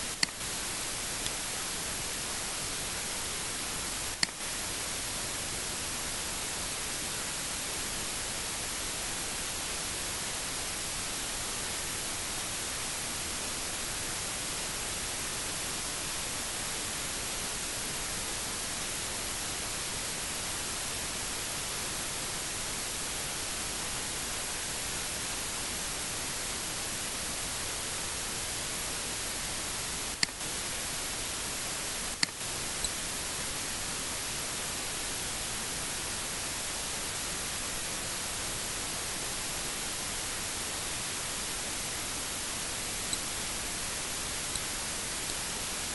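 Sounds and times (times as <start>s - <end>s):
electronic recording hiss: 0.0s - 45.9s.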